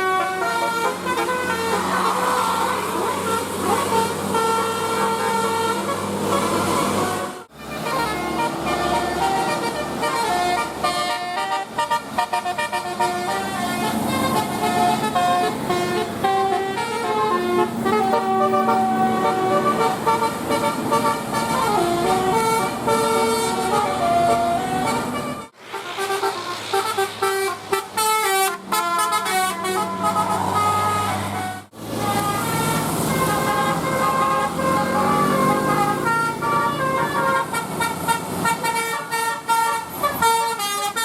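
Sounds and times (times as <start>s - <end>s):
musical bus horn playing a tune: 0.0s - 41.0s.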